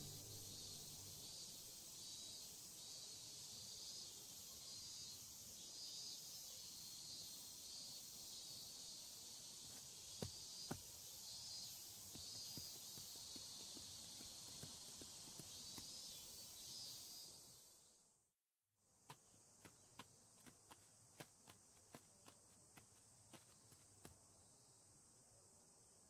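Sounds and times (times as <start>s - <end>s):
insect chorus hissing: 0.0s - 18.1s, 19.0s - 26.0s.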